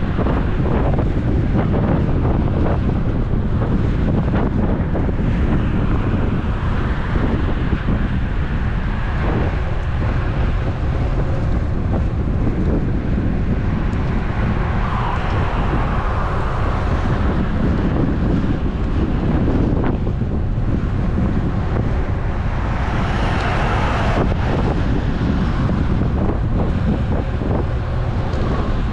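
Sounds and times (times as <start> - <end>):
road noise: 0.0 - 28.9
wind buffeting microphone: 0.0 - 28.9.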